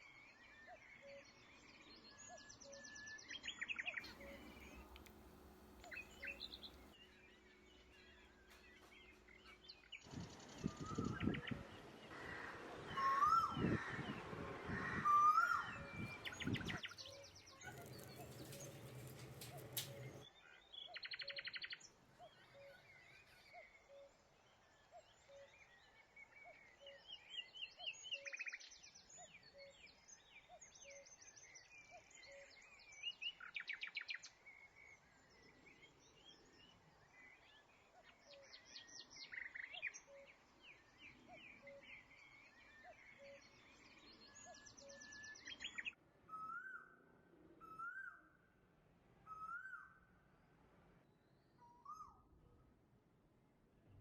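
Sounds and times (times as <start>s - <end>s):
small birds chirping and trilling: 0.0s - 25.8s, 26.8s - 46.8s.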